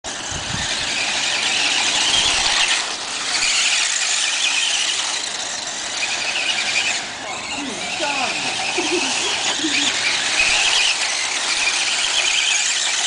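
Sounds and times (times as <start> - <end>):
rc car motors whining: 0.1 - 13.0.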